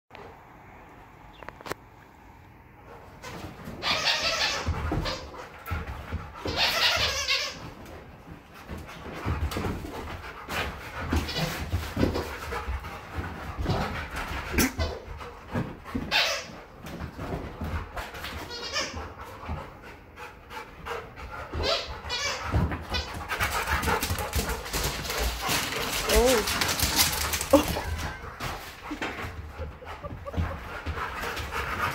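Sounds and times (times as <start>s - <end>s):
paws scrambling on hardwood floor: 2.8s - 31.9s.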